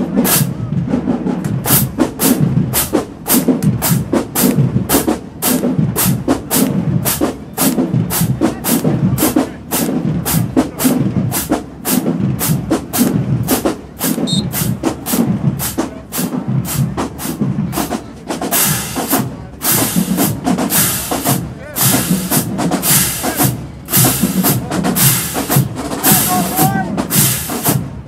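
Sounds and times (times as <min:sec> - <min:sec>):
bass and tenor drum beats: 0:00.0 - 0:28.0
snare drum strokes: 0:00.0 - 0:28.0.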